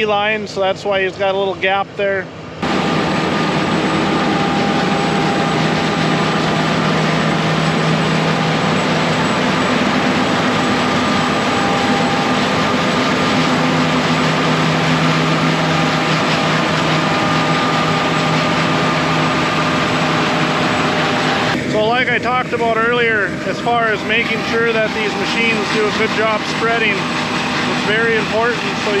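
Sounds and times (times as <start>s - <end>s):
combine harvester drone: 0.0s - 29.0s
humming tones: 2.6s - 29.0s.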